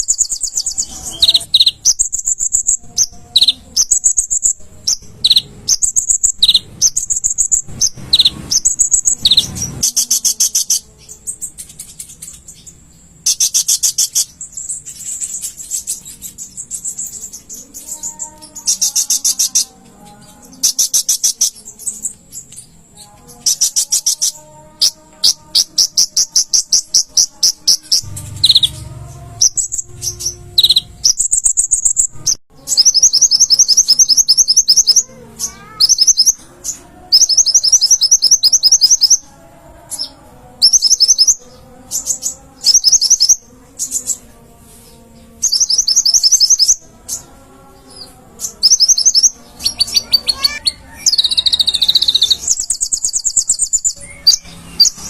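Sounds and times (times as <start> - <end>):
small bird singing high notes: 0.0 - 44.3, 45.3 - 47.2, 47.8 - 55.0.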